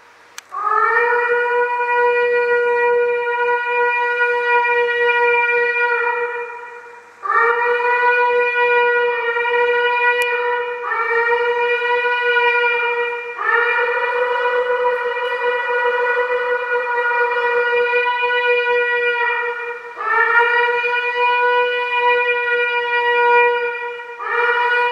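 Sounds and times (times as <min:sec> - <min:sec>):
ram's horn blasts: 0:00.5 - 0:24.9.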